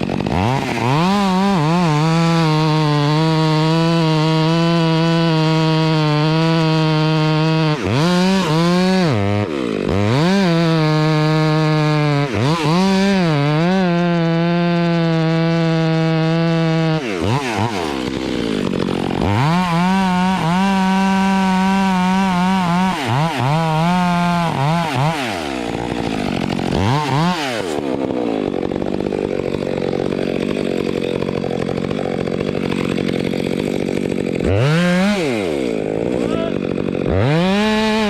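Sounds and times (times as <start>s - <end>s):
chainsaw revving and idling: 0.0s - 38.0s.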